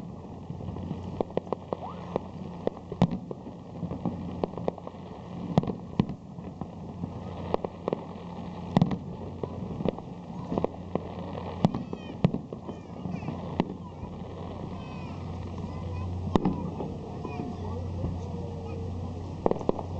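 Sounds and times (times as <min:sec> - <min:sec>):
fireworks bangs and pops: 0:00.0 - 0:19.9
low hum: 0:00.0 - 0:19.9.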